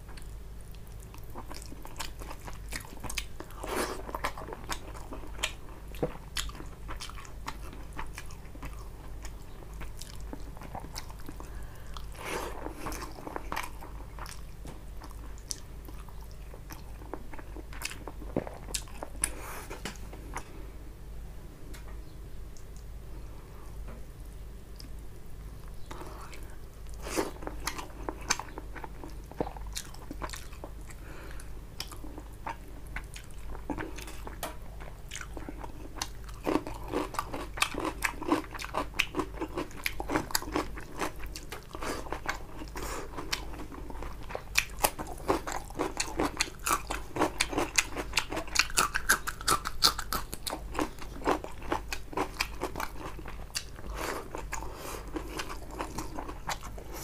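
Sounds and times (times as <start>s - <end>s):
wet chewing and smacking: 0.0s - 20.1s, 25.6s - 31.0s, 31.8s - 57.0s.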